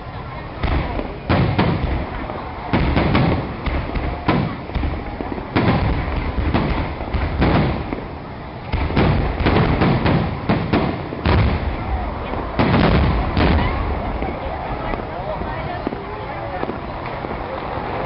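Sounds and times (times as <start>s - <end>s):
fireworks bursting with loud bangs: 0.0s - 18.0s
fireworks crackling and rumble: 0.0s - 18.0s.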